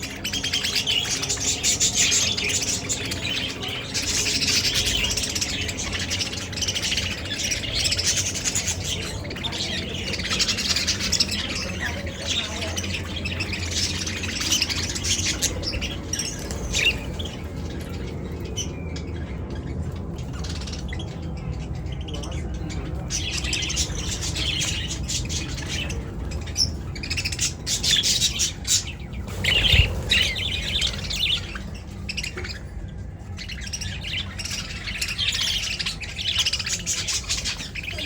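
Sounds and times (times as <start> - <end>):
budgies chattering: 0.0 - 38.0.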